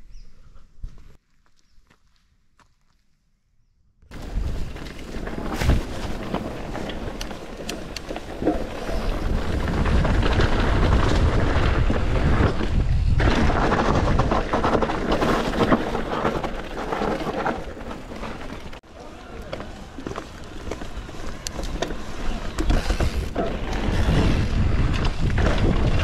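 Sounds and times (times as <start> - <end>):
bike rattling and knocking: 4.1 - 26.0
tyres on dirt and rock: 4.1 - 26.0
wind rumbling on microphone: 4.1 - 26.0.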